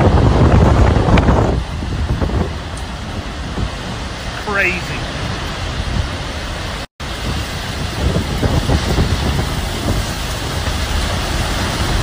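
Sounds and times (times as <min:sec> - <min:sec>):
heavy rain: 0:00.0 - 0:12.0
wind gusts buffeting microphone: 0:00.0 - 0:12.0.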